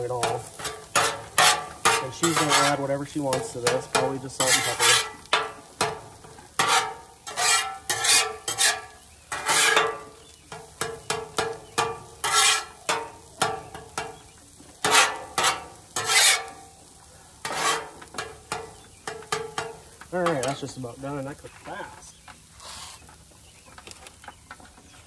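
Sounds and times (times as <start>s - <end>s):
metal spatulas scraping on griddle: 0.0s - 16.7s, 17.4s - 20.8s, 22.6s - 23.1s.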